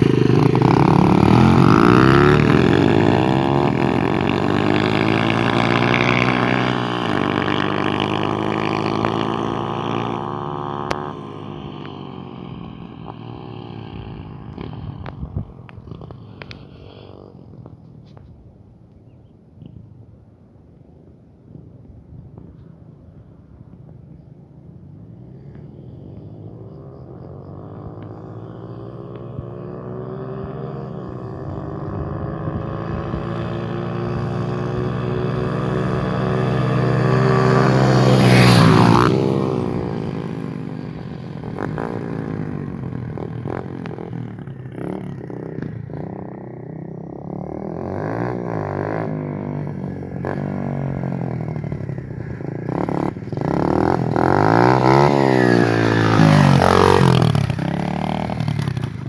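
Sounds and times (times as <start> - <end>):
motorcycle engine buzzing: 0.0 - 18.2, 24.9 - 59.0.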